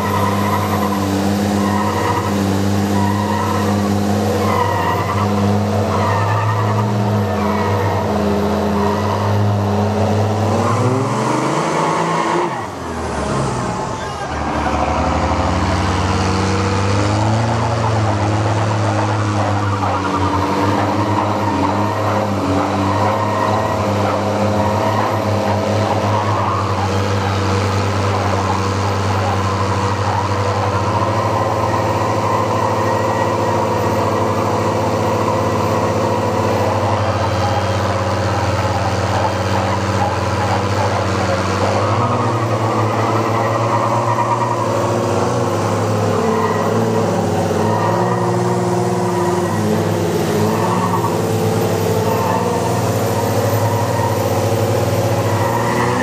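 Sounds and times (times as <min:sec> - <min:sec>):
truck engine straining at high revs: 0:00.0 - 0:56.0.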